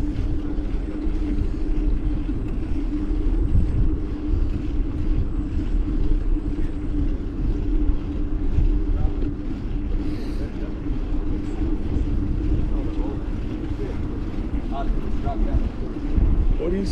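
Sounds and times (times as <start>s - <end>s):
steady low hum: 0.0s - 16.9s
wind rumbling on microphone: 0.0s - 16.9s.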